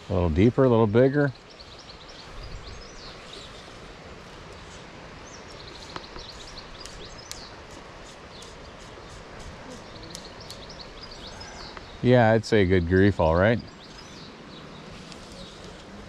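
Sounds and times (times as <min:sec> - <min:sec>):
outdoor background noise: 0:00.0 - 0:16.0
small birds chirping: 0:00.0 - 0:16.0.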